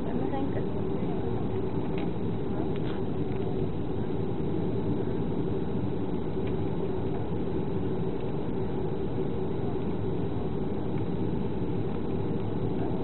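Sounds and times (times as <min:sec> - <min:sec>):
cabin hum: 0:00.0 - 0:13.0
jet engines roaring: 0:00.0 - 0:13.0.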